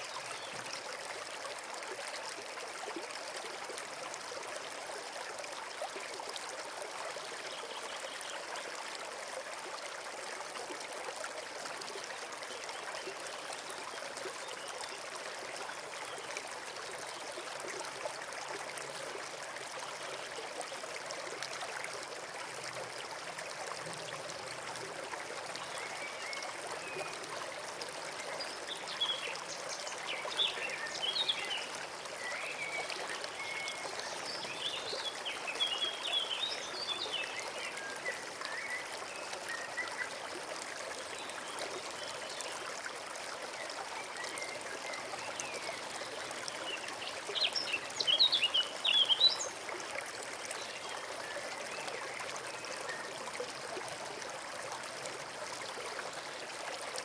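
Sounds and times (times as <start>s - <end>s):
brook trickling: 0.0s - 57.0s.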